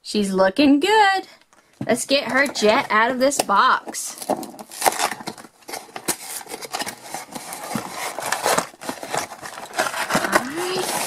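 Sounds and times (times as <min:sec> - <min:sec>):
cardboard box and packaging rustling: 0:01.7 - 0:11.0.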